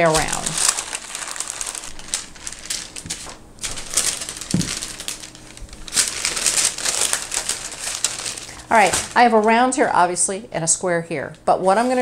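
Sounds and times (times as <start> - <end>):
parchment paper crinkling: 0.0 - 9.6, 11.6 - 12.0.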